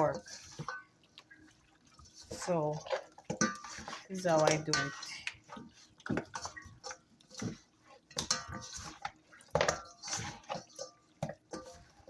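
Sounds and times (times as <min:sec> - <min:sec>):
wet squelching of meat by hand: 0:00.0 - 0:12.0.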